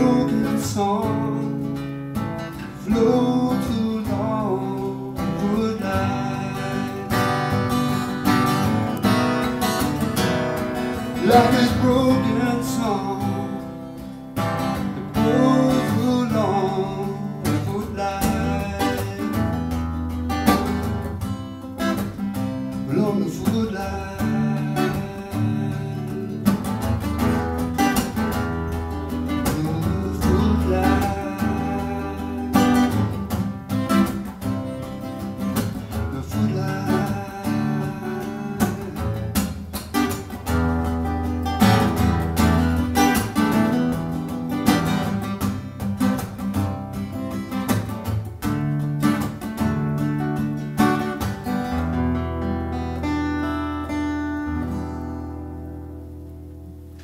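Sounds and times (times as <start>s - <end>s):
acoustic guitar: 0.0s - 57.0s.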